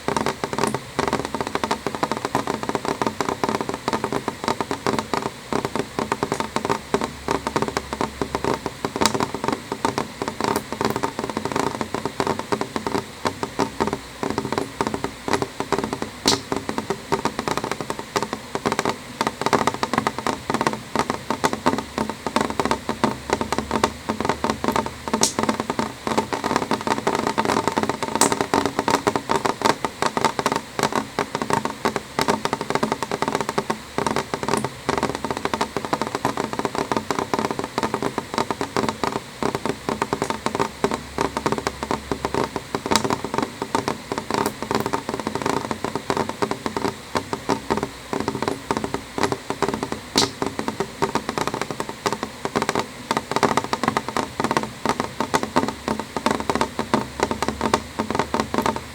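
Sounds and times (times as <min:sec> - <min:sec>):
rain tapping on window glass: 0:00.0 - 0:58.9.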